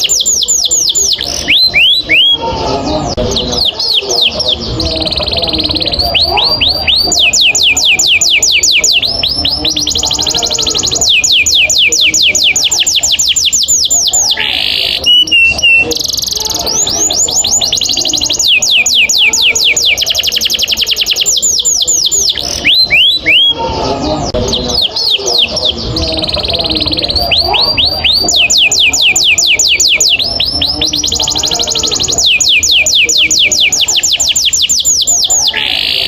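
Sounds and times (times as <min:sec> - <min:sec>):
canary singing trills: 0:00.0 - 0:36.0.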